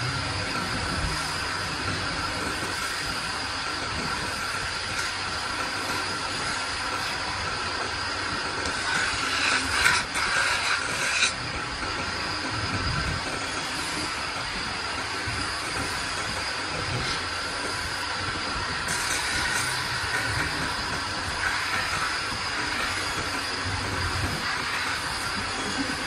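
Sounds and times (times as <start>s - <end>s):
wood lathe whining: 0.0s - 26.0s.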